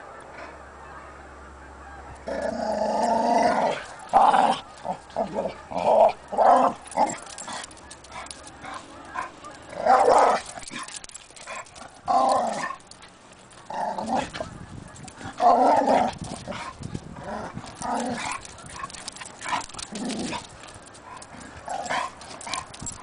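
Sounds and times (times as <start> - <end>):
dogs growling: 2.2 - 23.0.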